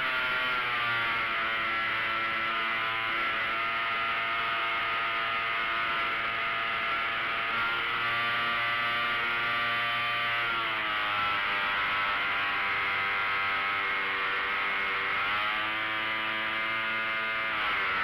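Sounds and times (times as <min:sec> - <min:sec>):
model airplane engine and propeller: 0:00.0 - 0:18.0.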